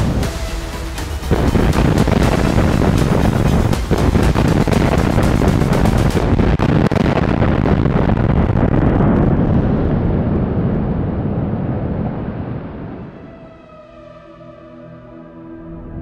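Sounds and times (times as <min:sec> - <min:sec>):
cooling towers collapsing: 0:00.0 - 0:13.0.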